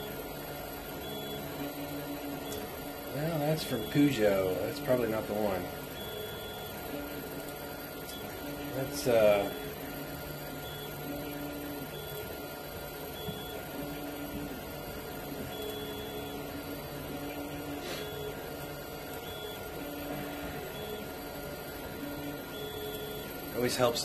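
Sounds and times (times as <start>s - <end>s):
stepper motor tones: 0.0s - 24.0s.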